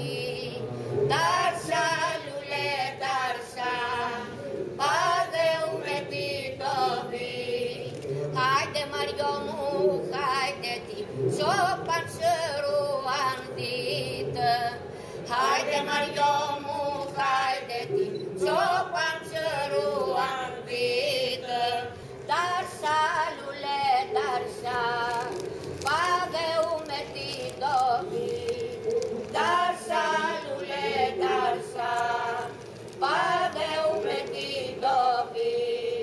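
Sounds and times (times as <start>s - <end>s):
women singing unaccompanied: 0.0s - 36.0s.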